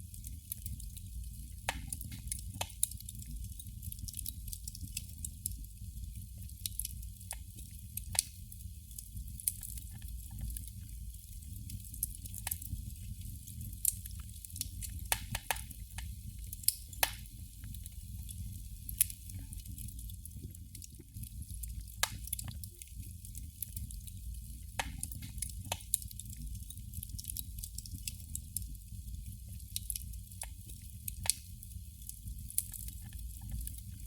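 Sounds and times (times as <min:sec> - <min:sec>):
candle flame crackling: 0:00.0 - 0:34.0.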